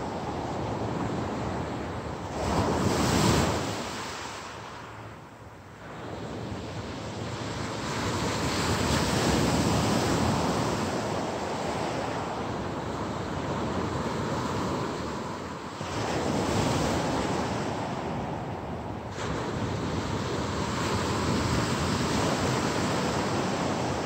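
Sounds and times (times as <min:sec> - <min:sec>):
surf on pebble beach: 0:00.0 - 0:05.1, 0:05.8 - 0:24.0.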